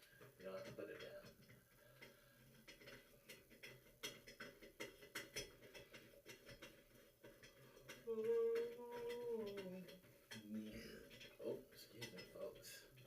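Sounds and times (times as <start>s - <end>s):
small clicks and taps of tools: 0.0s - 13.0s.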